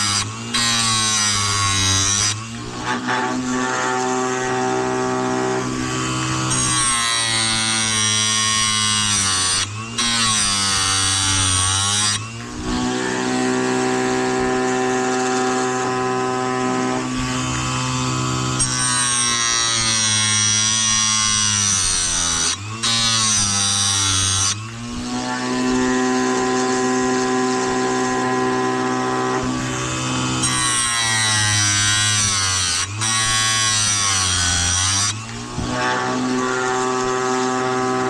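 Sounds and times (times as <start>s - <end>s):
grinding-wheel motor grinding: 0.0s - 38.0s.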